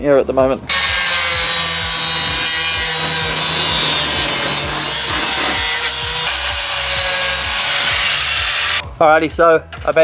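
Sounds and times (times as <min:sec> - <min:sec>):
angle grinder cutting steel: 0:00.7 - 0:08.8.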